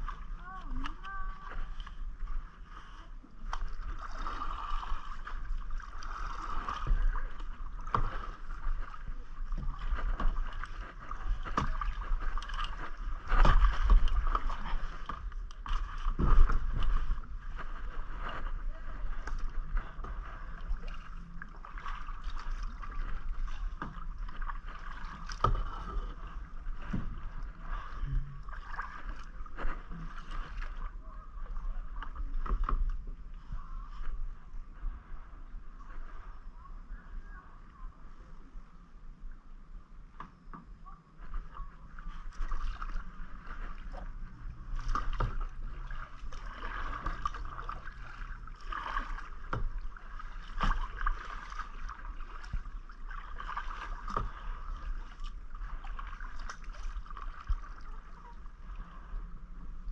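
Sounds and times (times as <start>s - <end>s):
paddle strokes splashing water: 0.0s - 36.9s, 40.2s - 59.9s.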